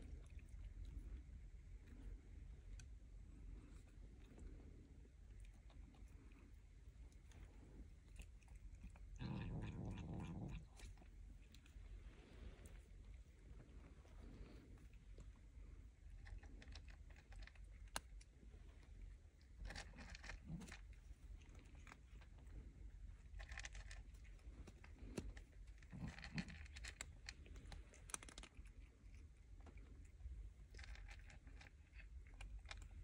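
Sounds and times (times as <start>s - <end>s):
granules crackling and rustling: 0.0s - 33.0s
low steady rumble: 0.0s - 33.0s.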